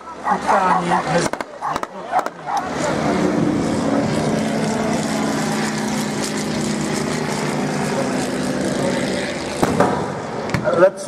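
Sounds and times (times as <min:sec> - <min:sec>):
biplane engine droning overhead: 0:00.0 - 0:11.0.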